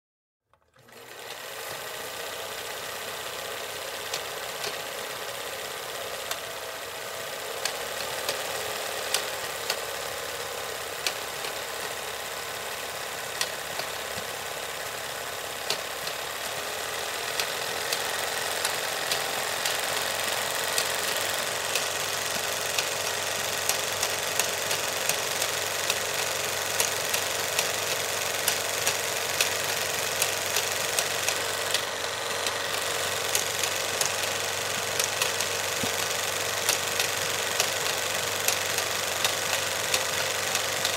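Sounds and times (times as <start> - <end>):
film projector clattering: 0.6 - 40.9.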